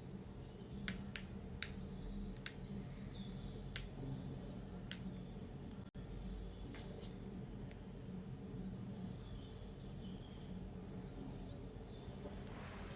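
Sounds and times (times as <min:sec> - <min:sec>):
small birds chirping: 0:00.0 - 0:12.9
steady low hum: 0:00.0 - 0:12.9.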